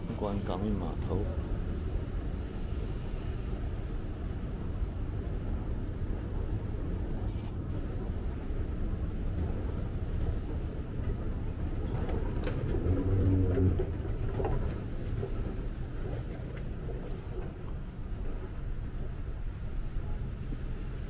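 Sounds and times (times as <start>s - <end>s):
road or hull noise: 0.0s - 21.0s
vehicle engine rumble: 1.2s - 21.0s.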